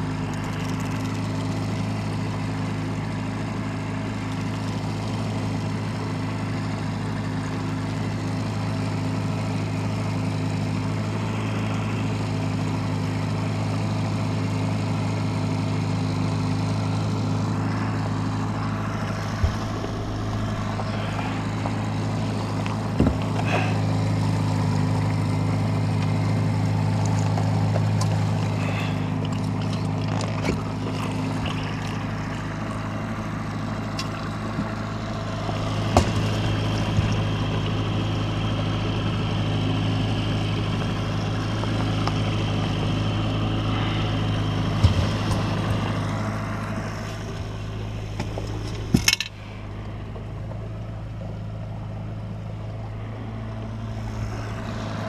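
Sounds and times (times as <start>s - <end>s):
outboard motor droning: 0.0s - 55.0s.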